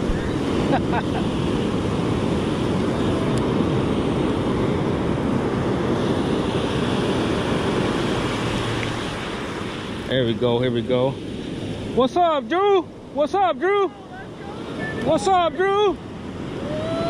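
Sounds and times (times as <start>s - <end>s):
surf washing up beach: 0.0s - 17.0s
wind rumbling on microphone: 0.0s - 17.0s.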